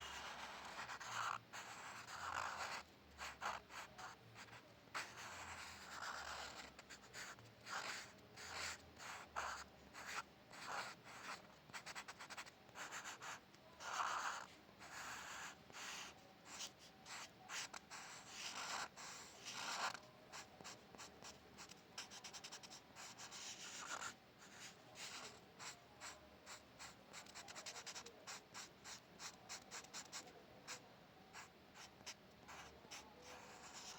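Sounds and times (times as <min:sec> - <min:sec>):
pencil scratching on paper: 0:00.0 - 0:33.9.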